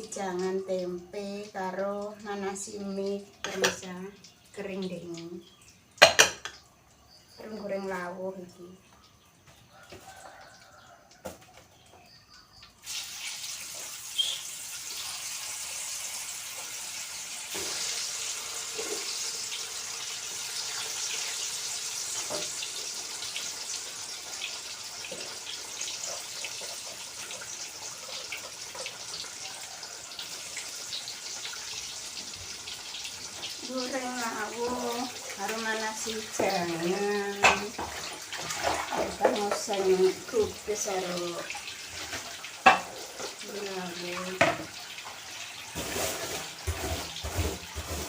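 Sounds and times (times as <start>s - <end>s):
food sizzling in hot oil: 0.0s - 8.2s, 12.5s - 48.0s.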